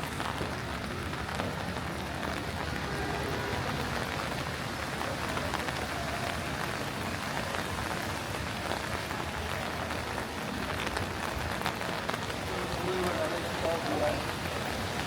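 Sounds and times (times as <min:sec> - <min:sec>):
rain falling on wet street: 0:00.0 - 0:15.0.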